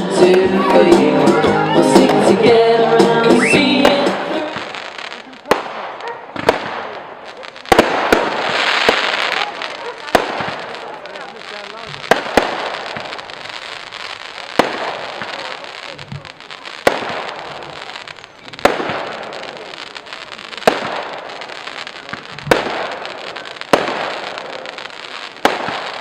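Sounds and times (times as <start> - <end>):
firework shells bursting: 3.7 - 26.0.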